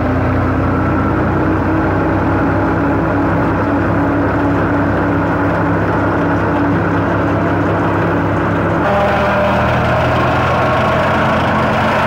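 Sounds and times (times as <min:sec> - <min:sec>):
tractor engine running steadily: 0:00.0 - 0:12.0.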